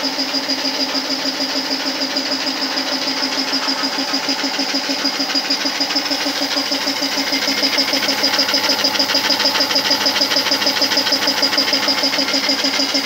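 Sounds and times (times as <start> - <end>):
air compressor chugging: 0.0 - 13.0.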